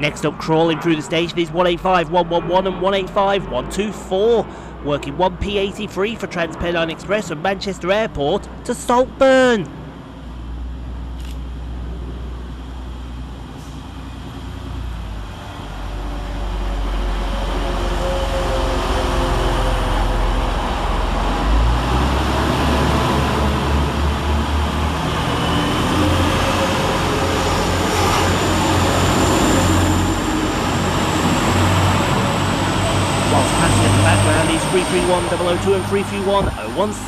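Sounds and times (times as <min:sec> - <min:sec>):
diesel train engines humming: 0:00.0 - 0:37.0.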